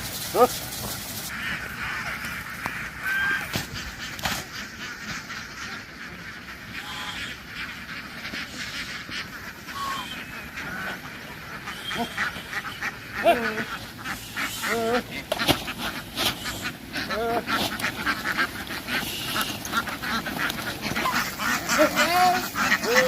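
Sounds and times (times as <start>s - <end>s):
ducks quacking: 0.0s - 23.0s.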